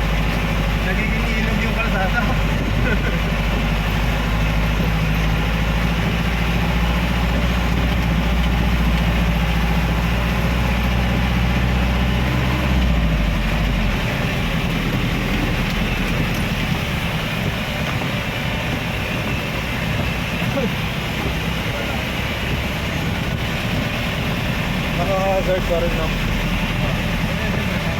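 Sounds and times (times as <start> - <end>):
engine and road hum: 0.0 - 27.9
rain and tyres hissing: 0.0 - 27.9.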